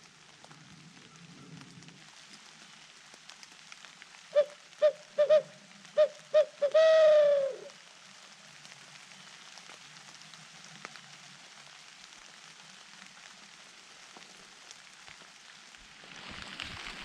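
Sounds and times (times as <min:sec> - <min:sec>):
light rain hissing: 0:00.0 - 0:17.0
raindrops ticking: 0:00.0 - 0:17.0.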